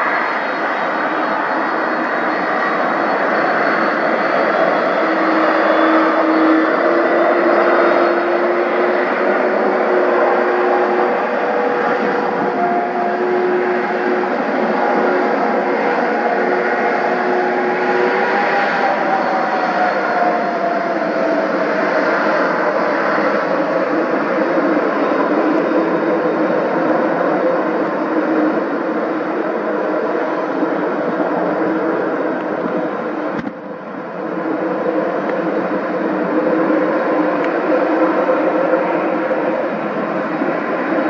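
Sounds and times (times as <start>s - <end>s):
jet airliner engines running: 0.0s - 41.0s.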